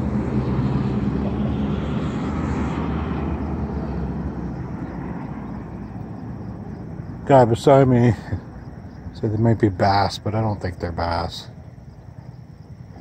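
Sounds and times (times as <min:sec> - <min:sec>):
car passing: 0:00.0 - 0:13.0.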